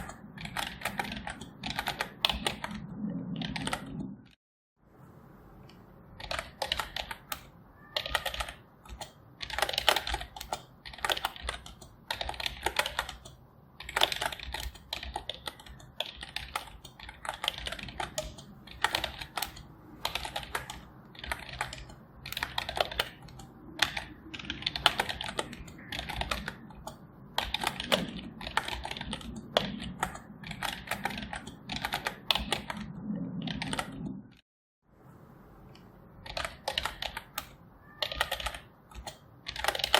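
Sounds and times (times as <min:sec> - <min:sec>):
computer keyboard typing: 0:00.0 - 0:04.3, 0:05.7 - 0:34.4, 0:35.7 - 0:39.9.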